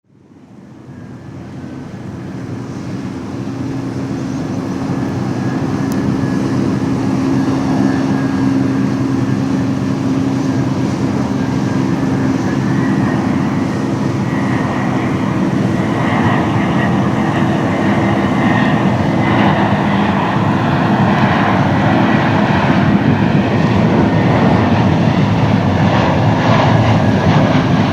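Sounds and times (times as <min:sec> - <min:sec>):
jet engines droning: 0:00.1 - 0:27.9
thin engine whine: 0:00.2 - 0:27.9.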